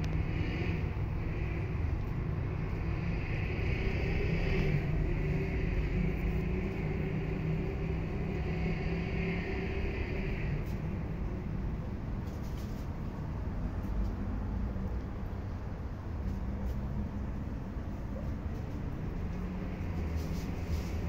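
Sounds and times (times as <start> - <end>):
faint hum: 0.0 - 21.0
low mechanical rumble: 0.0 - 21.0.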